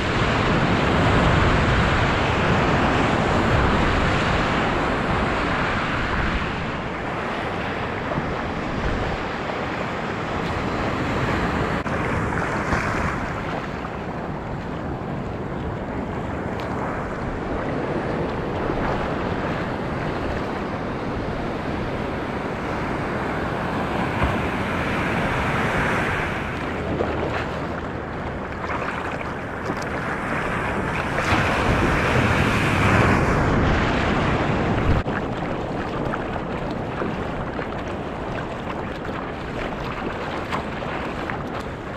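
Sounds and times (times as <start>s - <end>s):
surf washing: 0.0s - 41.9s
wind buffeting microphone: 0.0s - 41.9s.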